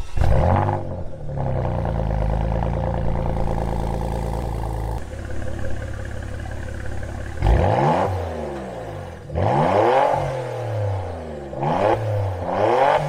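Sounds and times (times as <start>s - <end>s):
car engine cold start and idle: 0.0s - 13.0s.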